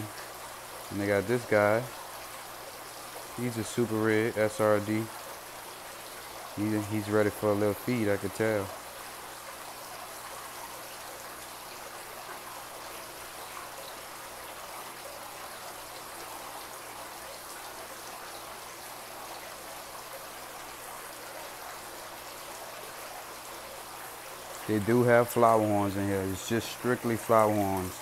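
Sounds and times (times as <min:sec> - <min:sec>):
water splashing and bubbling: 0:00.0 - 0:28.0.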